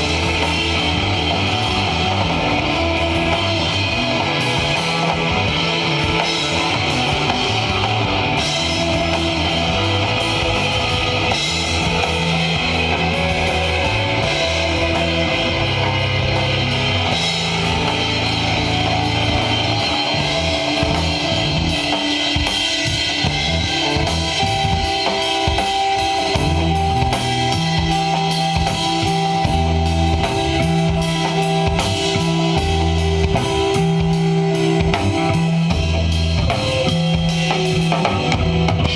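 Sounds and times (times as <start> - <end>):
held low notes: 0.0 - 22.2, 26.2 - 38.9
drum kit: 0.0 - 38.9
electric guitar: 0.0 - 38.9.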